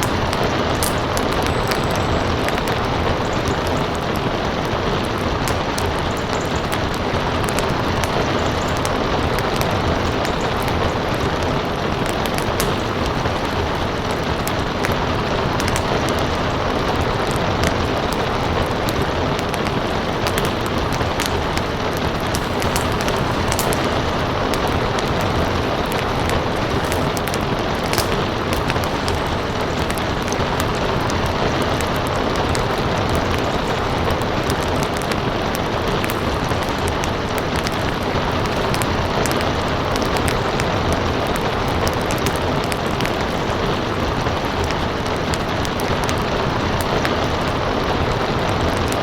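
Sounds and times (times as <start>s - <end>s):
rain falling: 0.0s - 49.0s
wood fire crackling: 0.0s - 49.0s.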